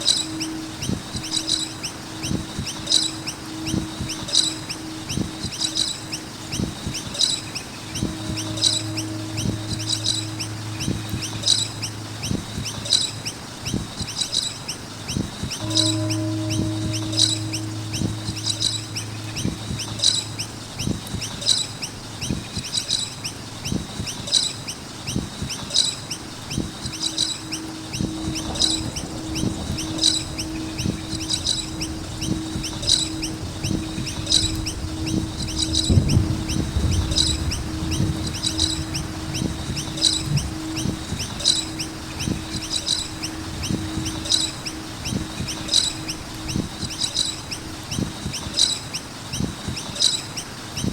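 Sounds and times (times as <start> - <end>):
low hum and rumble: 0.0 - 49.4
birds chirping: 0.0 - 50.9.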